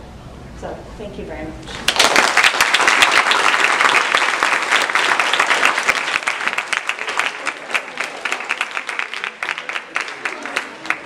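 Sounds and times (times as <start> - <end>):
audience applauding: 1.7 - 11.0.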